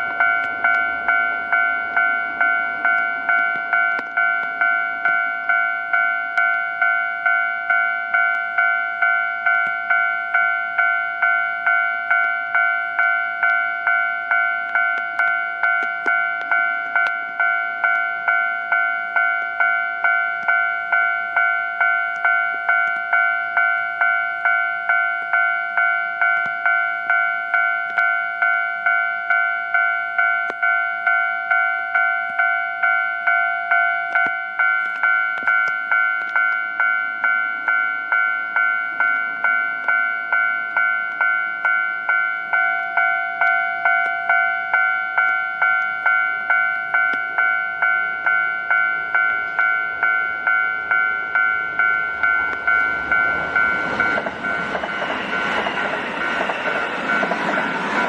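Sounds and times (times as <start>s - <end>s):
level-crossing warning bell: 0.0s - 58.0s
rumble of approaching train: 0.0s - 58.0s.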